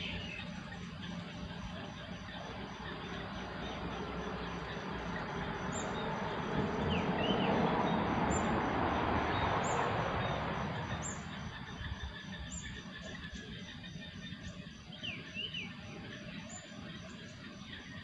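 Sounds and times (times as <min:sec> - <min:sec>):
small birds chirping: 0:00.0 - 0:08.6, 0:09.2 - 0:18.0
insect-like pulsing: 0:00.0 - 0:18.0.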